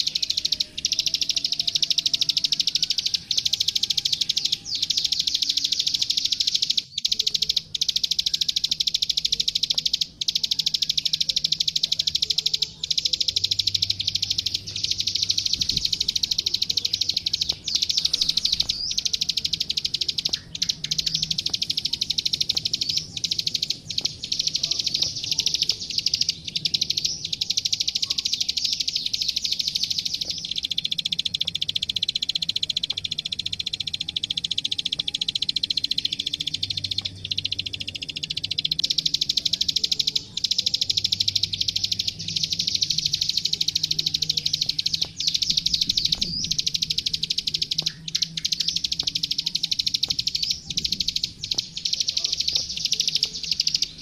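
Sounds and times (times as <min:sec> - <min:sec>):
bird clicking trill: 0:00.0 - 0:54.0.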